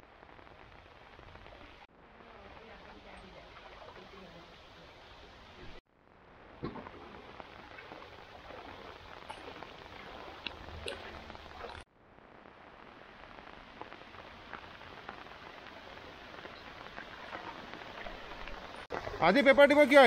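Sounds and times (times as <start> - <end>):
rain falling on water: 0.0 - 20.0
drips and splashes: 1.2 - 5.8, 6.6 - 11.9, 13.8 - 20.0.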